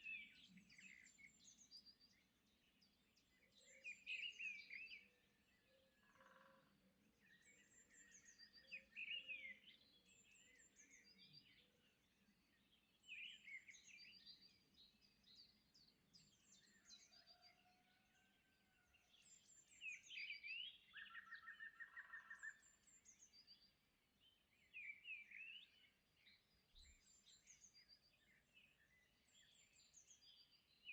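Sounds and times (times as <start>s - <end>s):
faint birdsong chirps and whistles: 0.0s - 18.3s, 18.9s - 30.9s.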